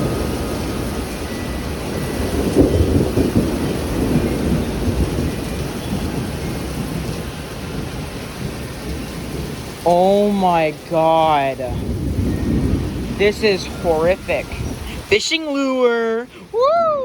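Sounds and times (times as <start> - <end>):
low rumble of thunder: 0.0 - 15.2
heavy rain pouring: 0.0 - 17.0.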